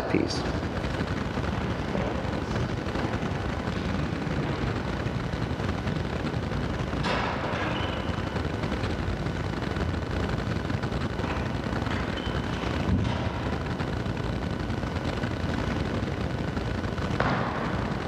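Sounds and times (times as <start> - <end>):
low rumble and hiss of room noise: 0.0 - 18.0.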